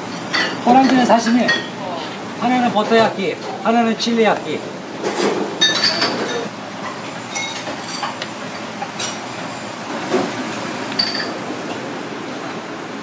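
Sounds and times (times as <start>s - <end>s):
kitchen hiss and rumble: 0.0s - 13.0s.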